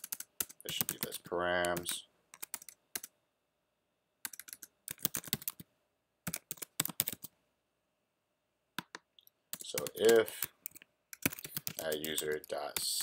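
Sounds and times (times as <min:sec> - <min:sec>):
computer keyboard typing: 0:00.0 - 0:03.1, 0:04.2 - 0:07.3, 0:08.8 - 0:13.0.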